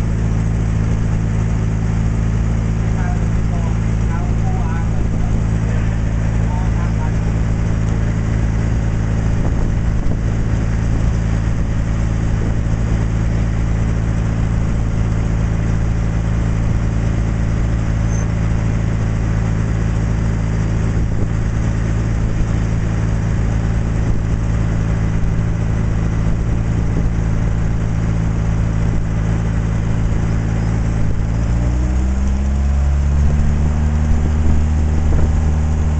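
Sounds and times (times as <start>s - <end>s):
boat engine running: 0.0s - 35.9s.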